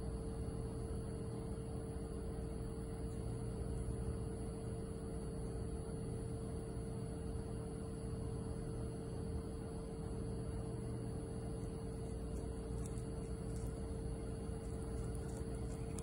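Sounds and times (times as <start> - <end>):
mid-pitched hum: 0.0 - 16.0.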